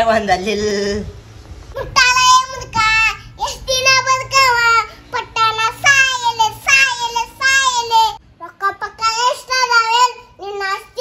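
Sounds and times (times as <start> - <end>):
boy singing: 1.8 - 11.0.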